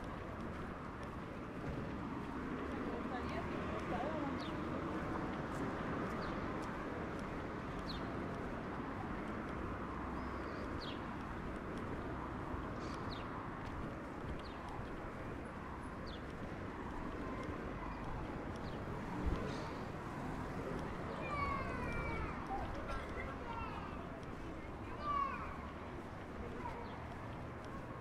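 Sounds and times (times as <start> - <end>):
distant traffic hum: 0.0 - 28.0
small birds chirping: 3.2 - 5.1, 6.0 - 28.0.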